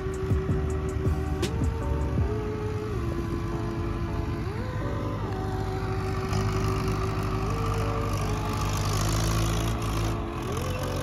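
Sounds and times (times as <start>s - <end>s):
music with sliding notes: 0.0s - 11.0s
tractor diesel engine rumbling: 0.0s - 11.0s.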